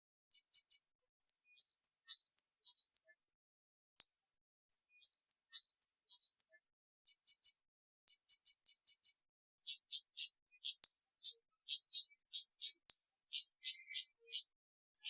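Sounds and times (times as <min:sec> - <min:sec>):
songbird chirping: 0:00.3 - 0:03.2, 0:04.0 - 0:14.6.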